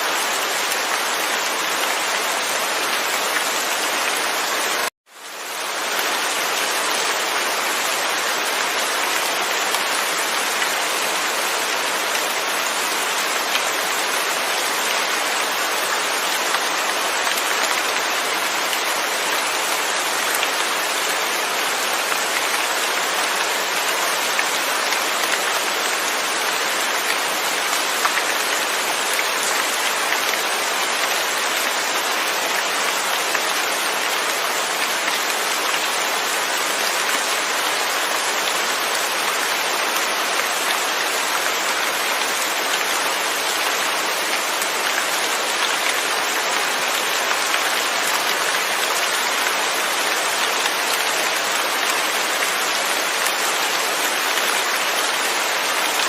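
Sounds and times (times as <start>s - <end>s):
dense rain falling: 0.0s - 56.0s.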